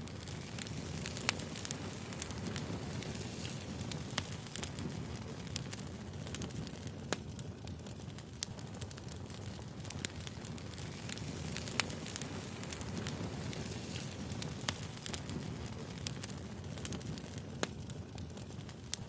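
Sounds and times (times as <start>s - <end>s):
low steady fire rumble: 0.0s - 19.0s
wood fire crackling: 0.0s - 19.0s.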